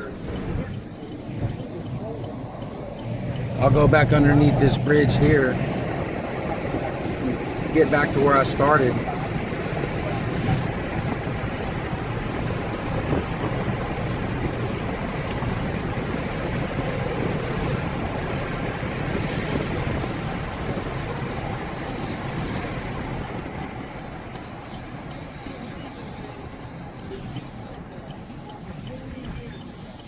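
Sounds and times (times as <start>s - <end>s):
vehicle road noise rumble: 0.0s - 30.0s.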